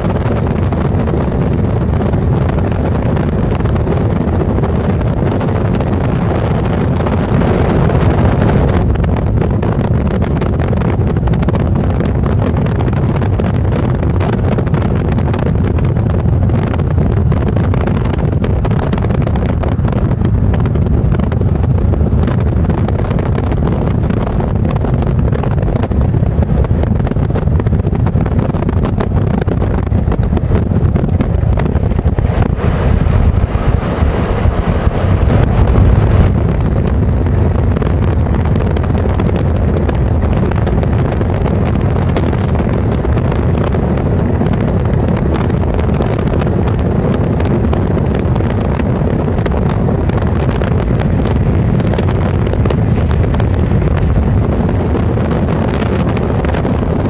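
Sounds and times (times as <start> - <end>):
road and wind noise in car: 0.0 - 57.0.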